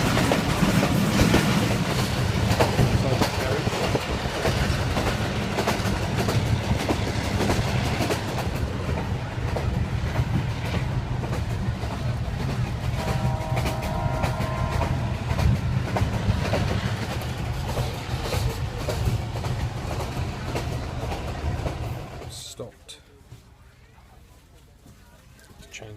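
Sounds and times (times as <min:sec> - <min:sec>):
train wheels clattering on rails: 0:00.0 - 0:22.7.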